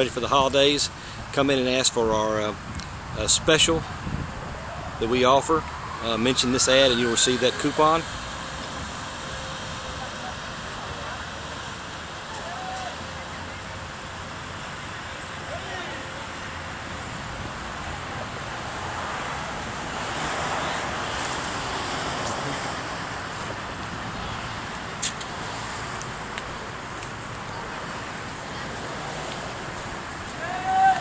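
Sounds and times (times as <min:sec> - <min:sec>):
vehicle noise: 0:00.0 - 0:31.0.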